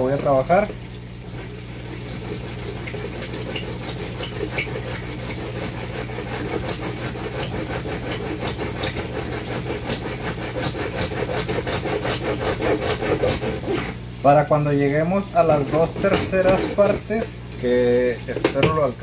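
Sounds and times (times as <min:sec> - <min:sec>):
hacksaw blade sawing plastic pipe: 0:01.3 - 0:14.0, 0:15.1 - 0:18.8.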